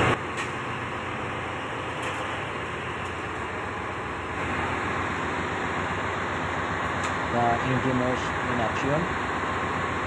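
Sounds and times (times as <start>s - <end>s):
engine room machinery hum: 0.0s - 10.0s.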